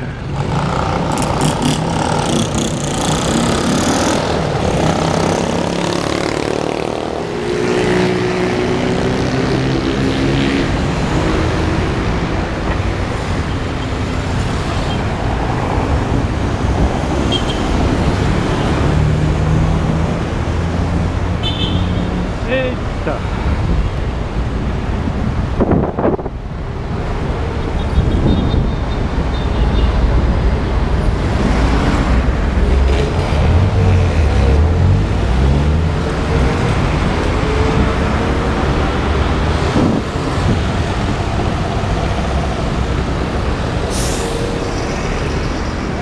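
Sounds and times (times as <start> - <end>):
road traffic passing: 0.0 - 46.0.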